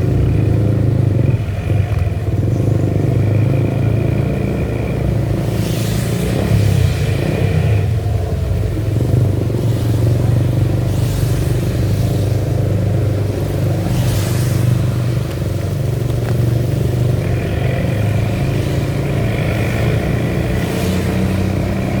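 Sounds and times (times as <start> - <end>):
rain hiss on wet road: 0.0 - 22.0
vehicle engine droning: 0.0 - 22.0.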